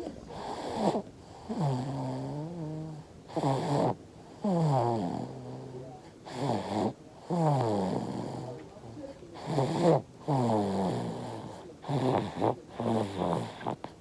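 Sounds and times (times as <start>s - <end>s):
baby snoring: 0.0s - 14.0s.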